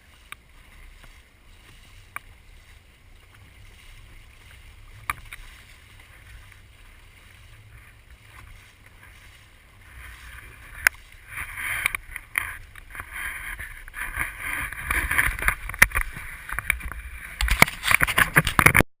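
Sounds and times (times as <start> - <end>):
water splashing against sailboat: 0.0 - 18.8.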